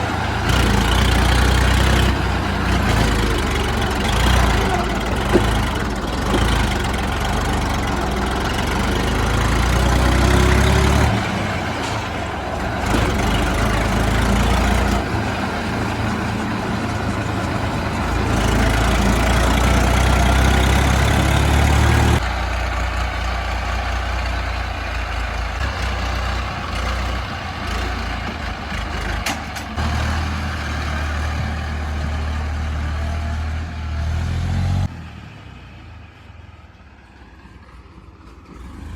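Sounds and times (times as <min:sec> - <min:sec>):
heavy diesel machinery engines: 0:00.0 - 0:38.9.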